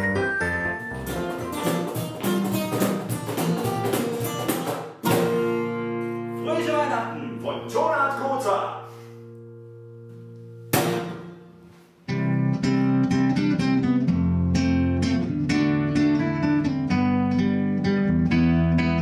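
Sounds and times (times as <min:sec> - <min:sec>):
acoustic guitar picking notes: 0:00.0 - 0:19.0
guitar chord strum: 0:00.0 - 0:19.0.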